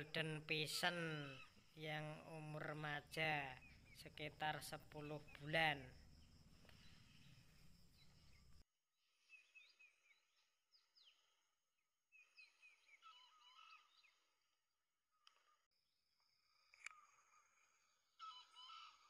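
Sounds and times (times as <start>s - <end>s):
faint high bird chirps: 0.0s - 8.6s, 9.2s - 11.4s, 12.1s - 14.6s, 16.4s - 19.0s.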